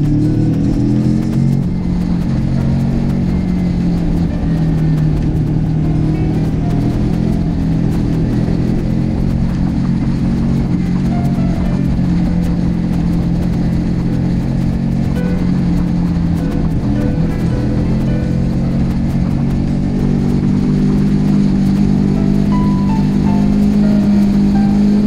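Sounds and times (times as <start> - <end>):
motorcycle engine cruising: 0.0 - 25.0
wind and road rush: 0.0 - 25.0.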